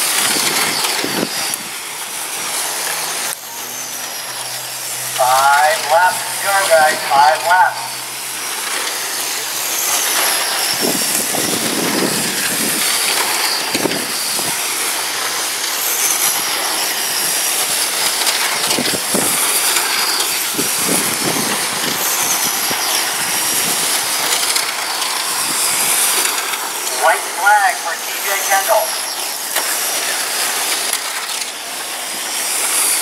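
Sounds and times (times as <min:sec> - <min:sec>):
high electric motor whine: 0:00.0 - 0:33.0
tyres hissing on pavement: 0:00.0 - 0:33.0.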